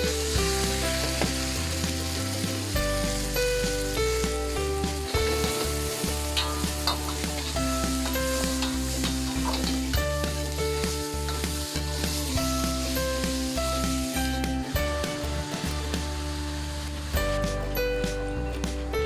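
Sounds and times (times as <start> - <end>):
food sizzling in hot oil: 0.0 - 18.3
background music: 0.0 - 19.0.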